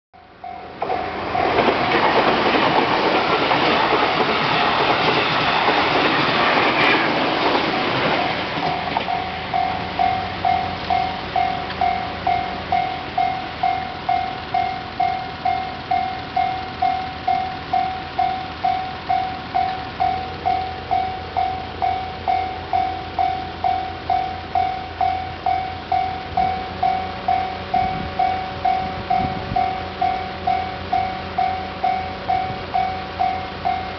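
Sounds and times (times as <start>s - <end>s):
level crossing warning bell: 0.2s - 6.2s, 7.4s - 33.9s
train wheel and rail noise: 0.2s - 33.9s.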